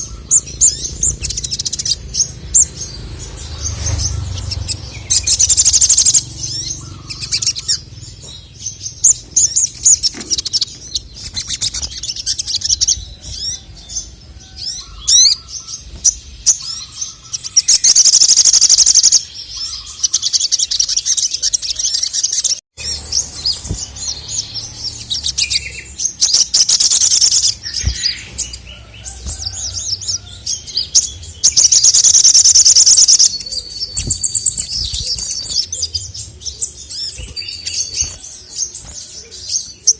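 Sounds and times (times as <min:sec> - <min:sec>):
bird chirps and sliding notes: 0:00.0 - 0:39.9
sunbird singing high trills: 0:00.0 - 0:39.9.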